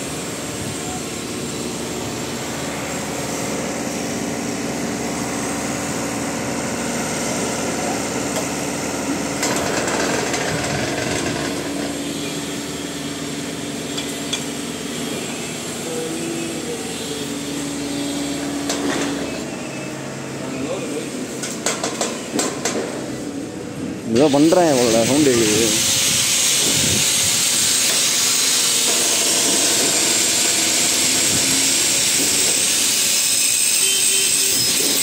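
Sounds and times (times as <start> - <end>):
concrete pump engine running: 0.0 - 35.0.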